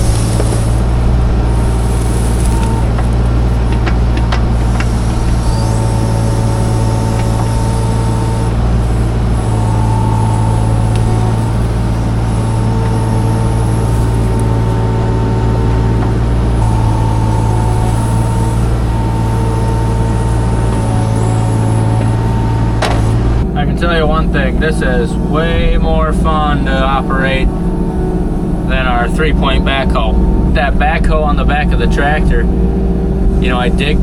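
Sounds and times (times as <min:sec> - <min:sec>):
hydraulic whine: 0:00.0 - 0:34.0
mini excavator engine running: 0:00.0 - 0:34.0.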